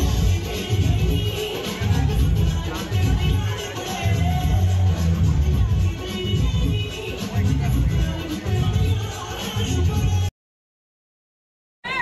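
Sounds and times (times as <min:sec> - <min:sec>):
background music: 0:00.0 - 0:10.3.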